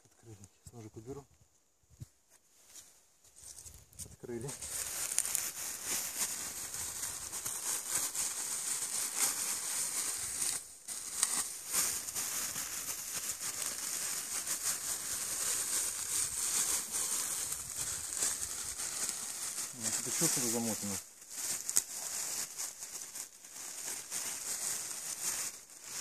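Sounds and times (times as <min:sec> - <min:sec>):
wrapping crinkling and rustling: 0:02.6 - 0:26.0.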